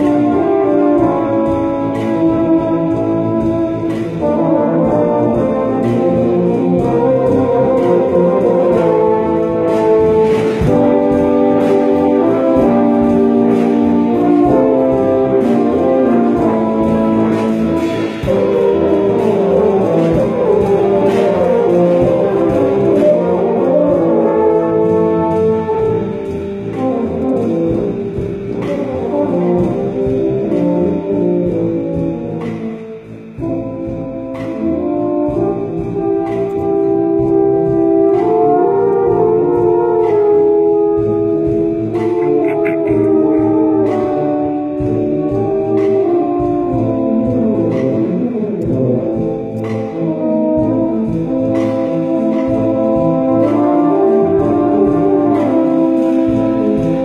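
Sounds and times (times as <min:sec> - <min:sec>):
tubas playing chords: 0:00.0 - 0:57.0.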